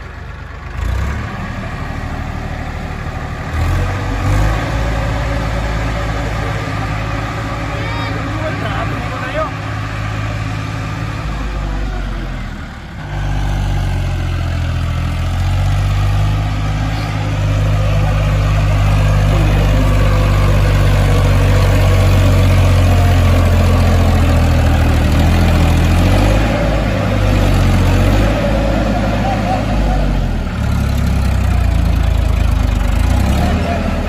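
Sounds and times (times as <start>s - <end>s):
diesel tractor engine under load: 0.0s - 34.0s.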